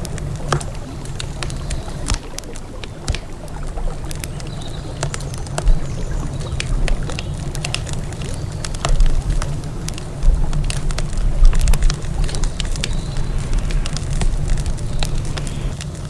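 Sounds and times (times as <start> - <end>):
campfire crackling and popping: 0.0 - 16.0
river flowing: 0.0 - 16.0.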